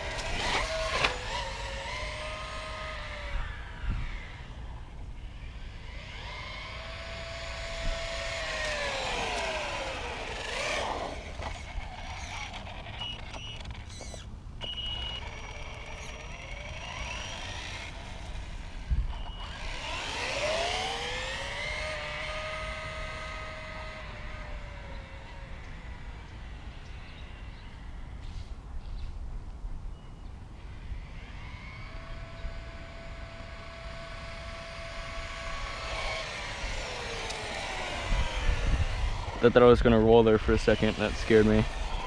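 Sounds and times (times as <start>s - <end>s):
electric motor whining: 0.0s - 28.5s, 30.6s - 42.0s.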